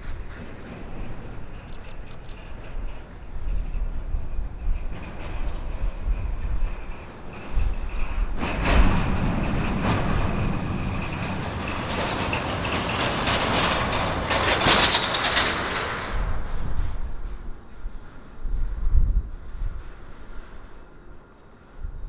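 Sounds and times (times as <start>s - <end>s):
diesel locomotive engine: 0.0s - 22.0s
wheels on rails: 0.0s - 22.0s
wind buffeting microphone: 0.0s - 22.0s.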